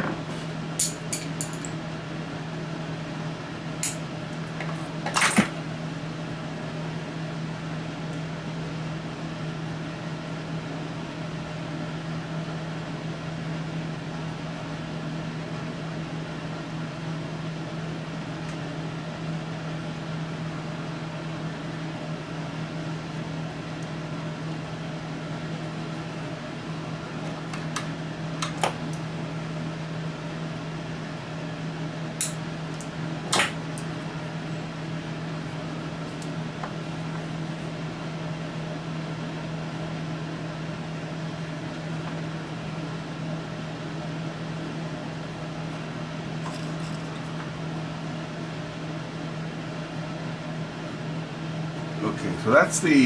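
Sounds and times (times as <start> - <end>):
workshop equipment humming: 0.0 - 53.0.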